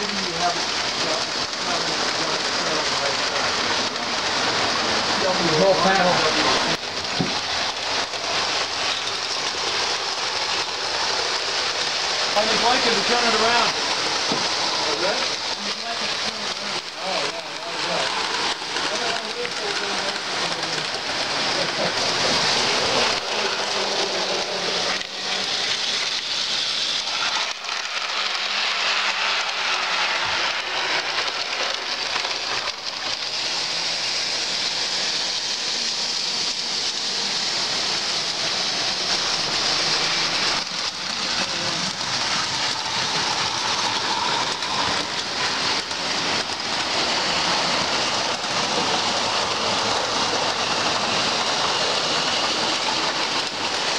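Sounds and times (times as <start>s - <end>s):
model train wheels rolling: 0.0s - 53.9s.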